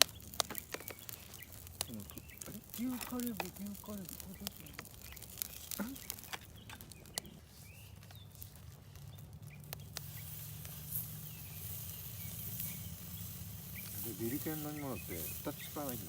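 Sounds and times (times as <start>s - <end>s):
faint bird chirps: 0.0s - 16.0s
meat sizzling on a grill: 0.0s - 16.0s.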